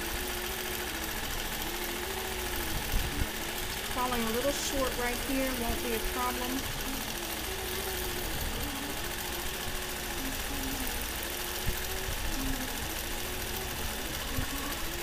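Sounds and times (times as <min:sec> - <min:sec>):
quilting machine motor hum: 0:00.0 - 0:15.0.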